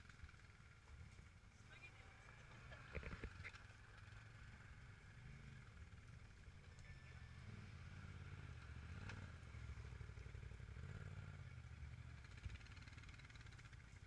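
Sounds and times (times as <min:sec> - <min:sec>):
off-road vehicle engines: 0:00.0 - 0:14.0.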